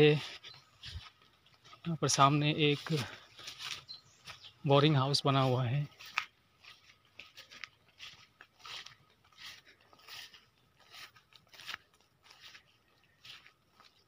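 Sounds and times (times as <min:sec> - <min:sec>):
footsteps crunching on leaf litter: 0:00.0 - 0:14.0.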